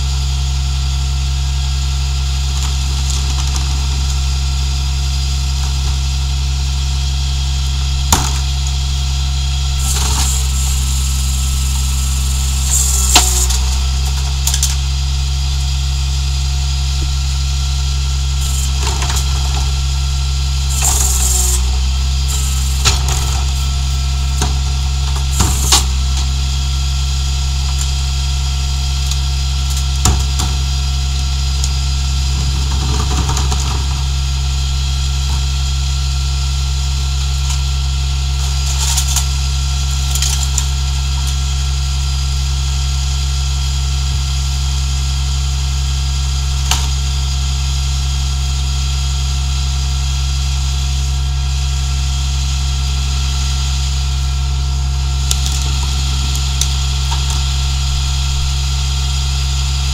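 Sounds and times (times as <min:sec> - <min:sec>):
garbage truck engine idling: 0:00.0 - 0:59.9.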